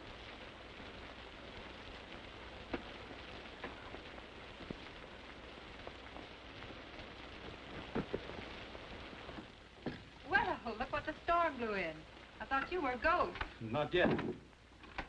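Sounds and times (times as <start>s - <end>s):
old film soundtrack noise: 0.0s - 15.0s
rain hissing: 0.0s - 15.0s.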